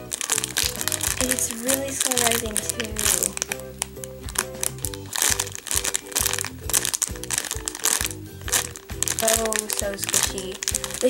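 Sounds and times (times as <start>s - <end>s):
light background music: 0.0s - 11.0s
plastic packaging crinkling: 0.0s - 11.0s.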